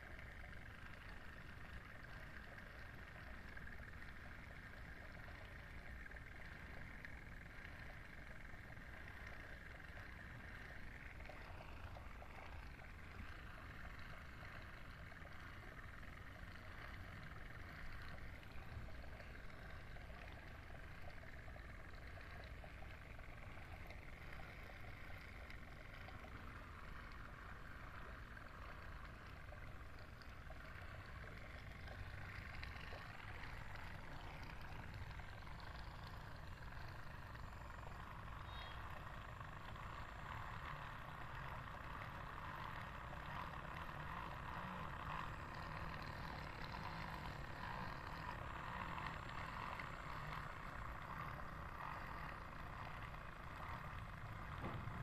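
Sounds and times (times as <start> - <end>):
small water pump whirring: 0.0 - 55.0.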